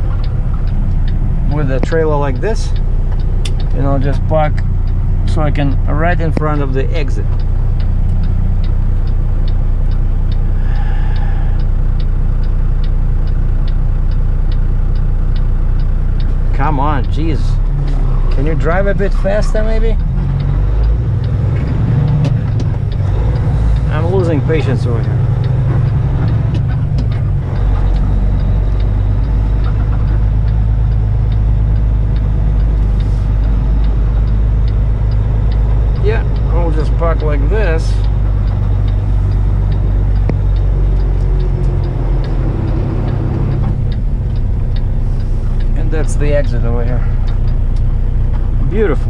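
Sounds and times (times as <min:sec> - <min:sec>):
diesel truck engine running: 0:00.0 - 0:49.0
turn signal ticking: 0:00.0 - 0:49.0.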